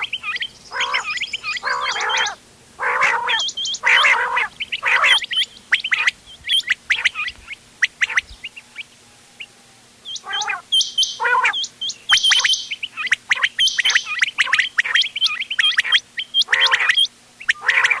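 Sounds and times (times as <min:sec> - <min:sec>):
harsh buzzy quail notes: 0:00.0 - 0:18.0
quails chirping: 0:00.0 - 0:18.0.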